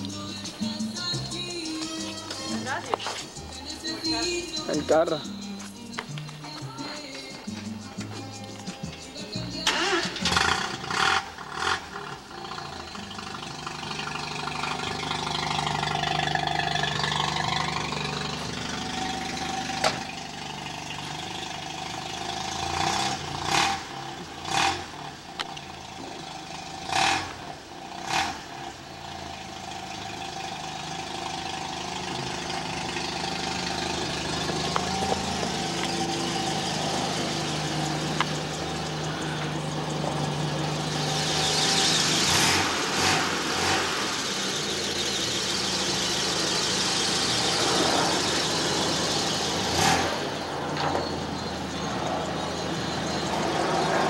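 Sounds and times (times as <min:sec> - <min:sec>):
rotary engine idling: 0:00.0 - 0:54.0.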